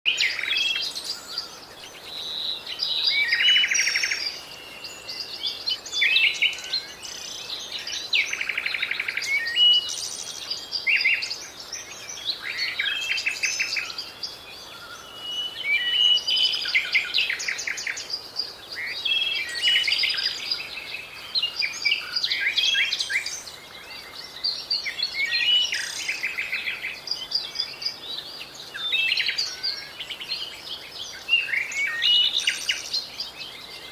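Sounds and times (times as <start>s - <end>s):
bird singing varied song: 0.0s - 33.9s.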